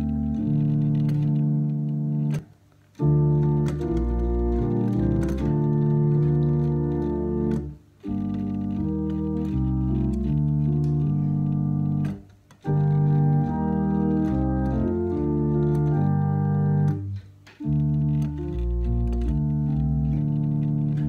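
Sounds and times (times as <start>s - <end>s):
electronic organ playing held chords: 0.0s - 21.0s.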